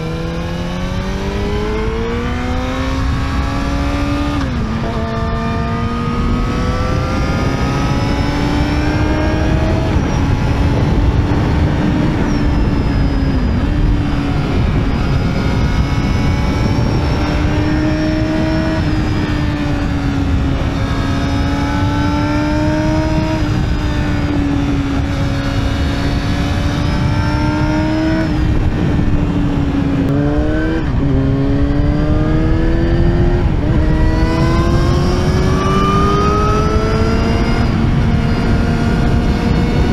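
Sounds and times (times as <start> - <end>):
motorcycle engine at high revs: 0.0 - 39.9
wind and road noise: 0.0 - 39.9.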